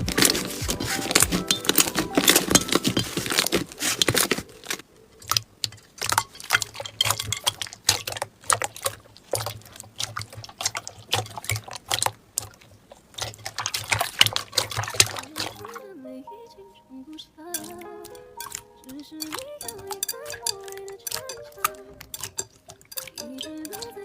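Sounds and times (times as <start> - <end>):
slime squelching by hand: 0.0 - 15.8, 17.5 - 24.0.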